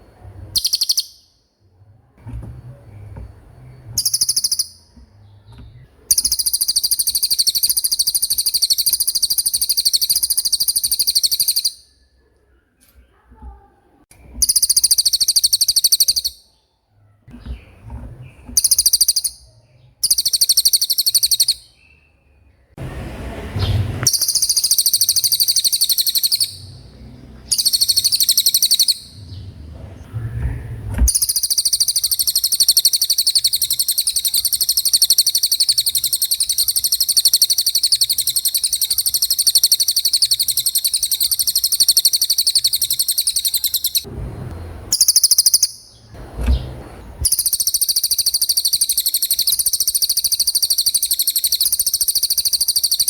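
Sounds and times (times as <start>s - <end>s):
songbird singing rolling trill: 0.5s - 1.4s, 2.8s - 12.0s, 14.4s - 16.7s, 17.4s - 22.8s, 23.6s - 29.7s, 31.1s - 44.1s, 44.9s - 53.0s.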